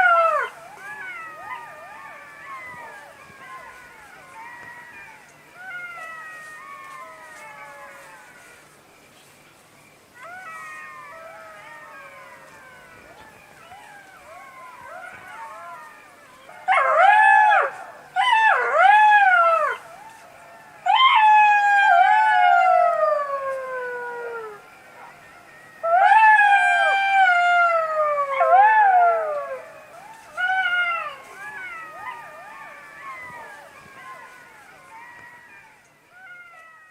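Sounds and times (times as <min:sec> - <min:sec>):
jackals howling: 0:00.0 - 0:08.8, 0:10.1 - 0:36.9.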